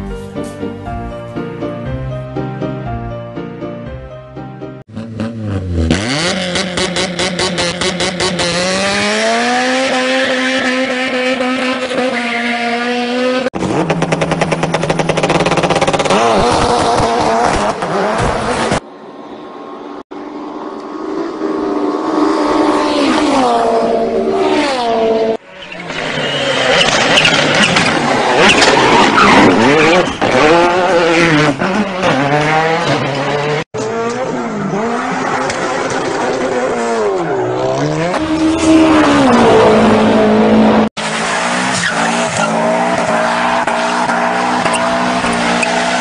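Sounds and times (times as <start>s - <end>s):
car engines revving: 4.9s - 46.0s.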